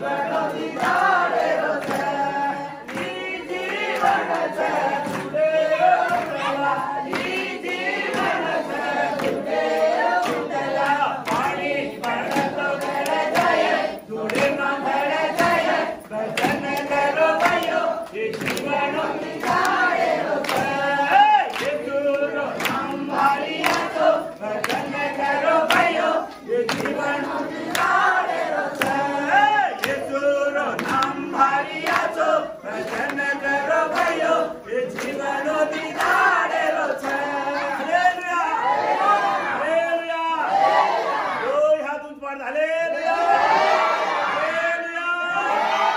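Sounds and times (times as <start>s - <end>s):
hand claps: 0.0s - 38.2s
congregation singing: 0.0s - 45.9s.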